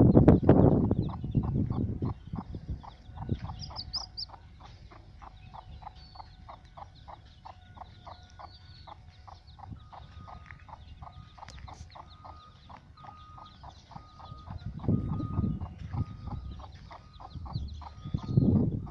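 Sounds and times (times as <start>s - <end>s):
chicks peeping: 0.0s - 18.9s
hen clucking: 0.5s - 18.9s.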